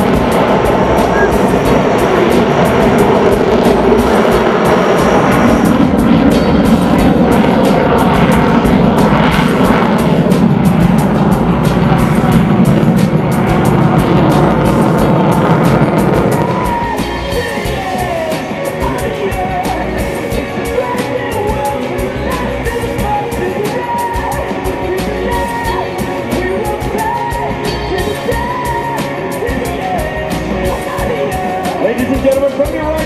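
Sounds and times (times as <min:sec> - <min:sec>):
fast drum beat: 0:00.0 - 0:33.0
rock music with vocals: 0:00.0 - 0:33.0.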